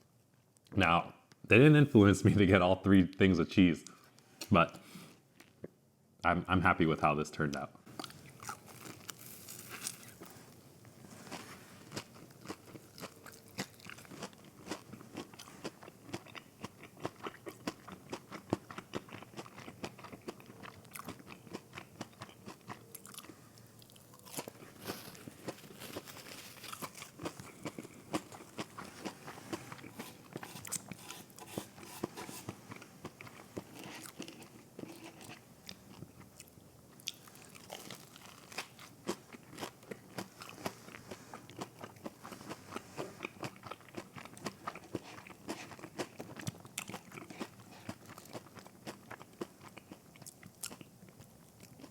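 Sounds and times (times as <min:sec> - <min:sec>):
crunchy chewing: 0:07.9 - 0:51.9.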